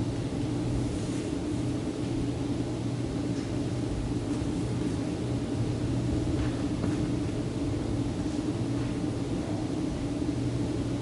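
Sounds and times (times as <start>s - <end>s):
low room hum and rumble: 0.0s - 11.0s.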